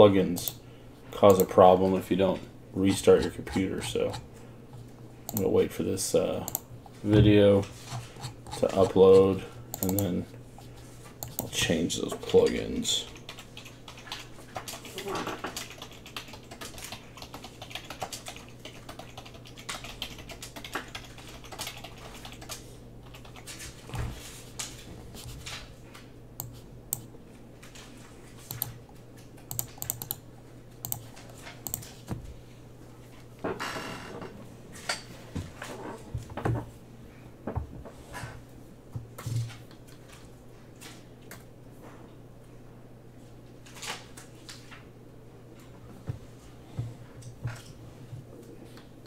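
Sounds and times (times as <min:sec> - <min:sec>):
steady low hum: 0:00.0 - 0:43.6.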